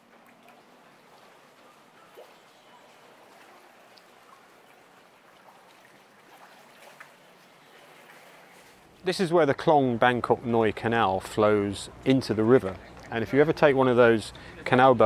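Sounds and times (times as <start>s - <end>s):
river water lapping: 0.0s - 15.0s.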